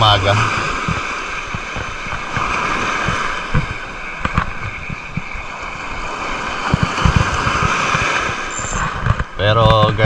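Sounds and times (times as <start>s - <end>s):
sea waves breaking on shore: 0.0s - 10.0s
wind buffeting microphone: 0.0s - 10.0s.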